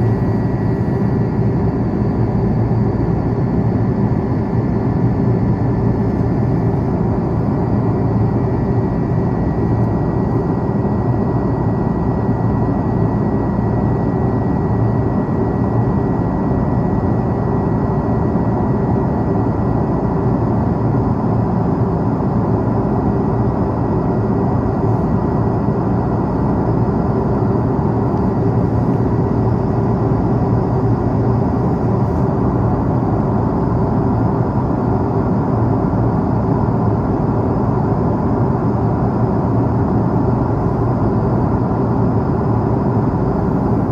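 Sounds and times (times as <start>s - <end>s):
airliner cabin engine and airflow rush: 0.0s - 43.9s.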